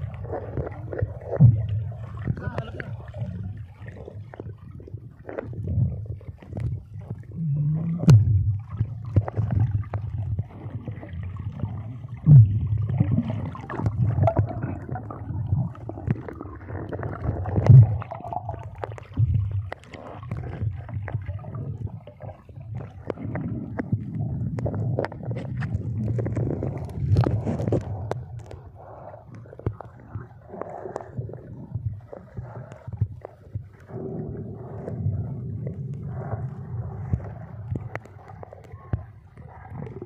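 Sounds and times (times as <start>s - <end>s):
air bubbles: 0.0s - 40.0s
underwater rumble and gurgling: 0.0s - 40.0s.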